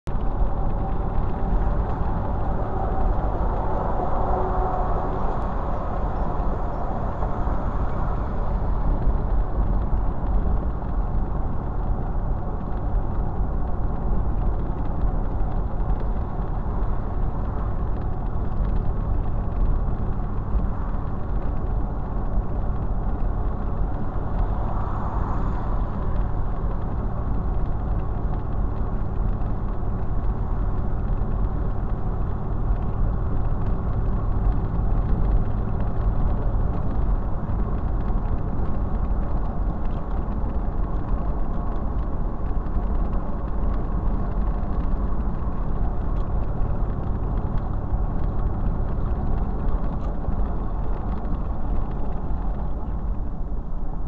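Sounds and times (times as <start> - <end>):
car road noise from inside: 0.0 - 54.0.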